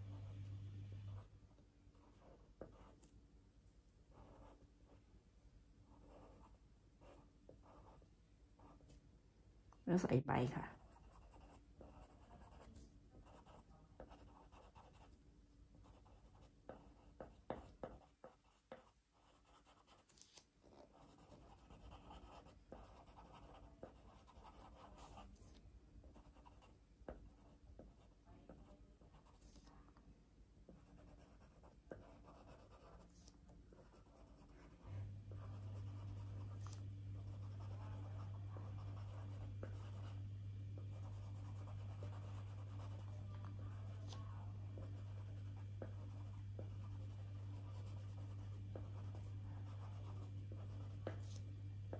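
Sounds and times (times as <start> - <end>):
pencil scratching on paper: 0.0 - 3.1, 4.1 - 5.0, 5.9 - 8.9, 10.7 - 15.2, 15.8 - 29.7, 30.7 - 51.4
steady low hum: 0.0 - 20.0, 20.7 - 51.9.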